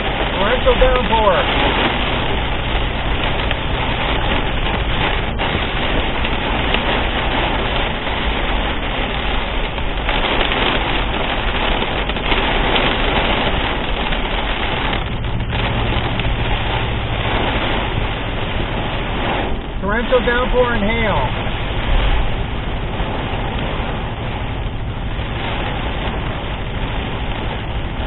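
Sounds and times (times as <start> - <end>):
heavy rain and hail: 0.0 - 28.0.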